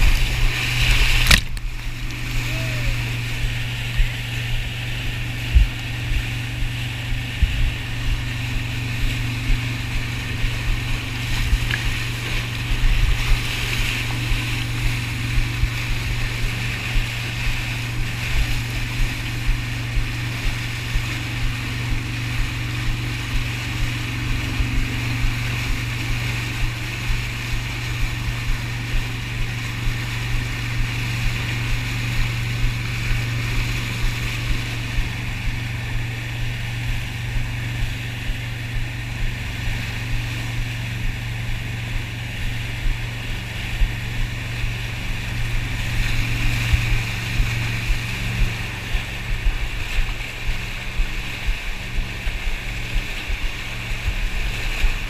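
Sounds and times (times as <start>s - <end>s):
boat engine droning: 0.0s - 55.0s
churning water: 0.0s - 55.0s.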